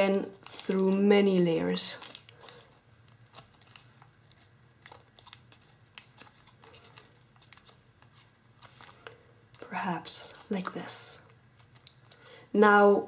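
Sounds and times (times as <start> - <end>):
foil paper crinkling: 1.7 - 12.3.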